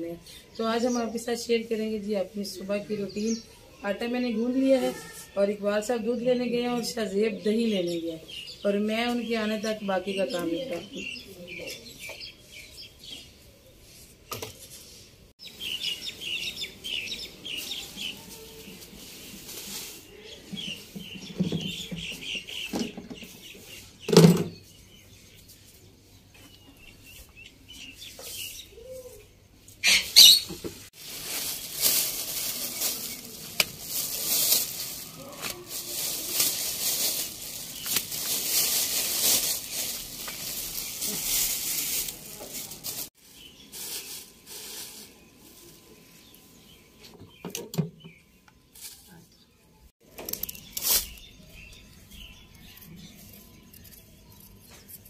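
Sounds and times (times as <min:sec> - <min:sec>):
radish leaves rustling: 0:00.7 - 0:13.1, 0:13.7 - 0:22.8, 0:27.7 - 0:46.7, 0:50.0 - 0:55.0.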